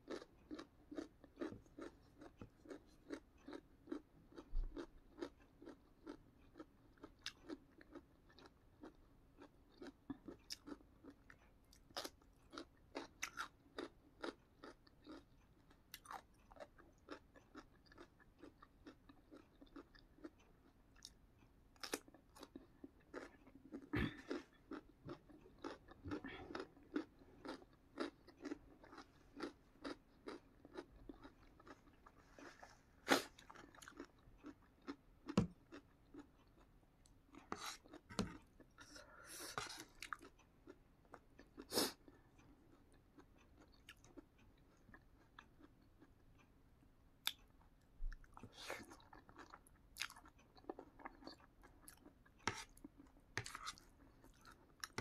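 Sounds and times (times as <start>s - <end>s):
chewing crisp raw vegetables: 0.0s - 46.5s, 47.2s - 55.0s.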